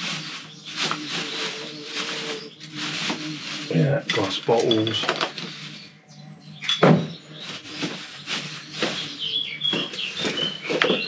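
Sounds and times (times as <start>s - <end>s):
plastic bag rustling: 0.0s - 6.0s, 7.2s - 11.0s
birds chirping: 0.0s - 11.0s.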